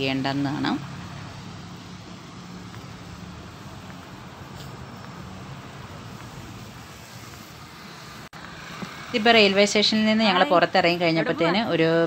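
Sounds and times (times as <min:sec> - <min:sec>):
cars and buses passing: 0:00.0 - 0:12.0
road noise: 0:00.0 - 0:12.0.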